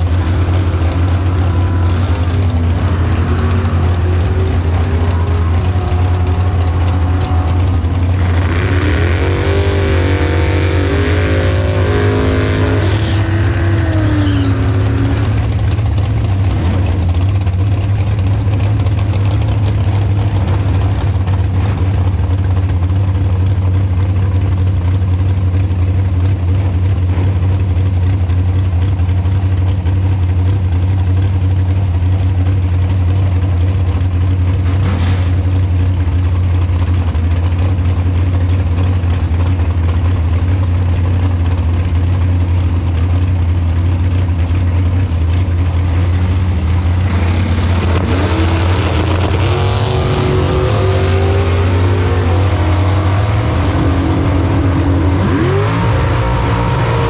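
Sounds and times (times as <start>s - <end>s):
dragster engine idling and revving: 0.0s - 57.0s.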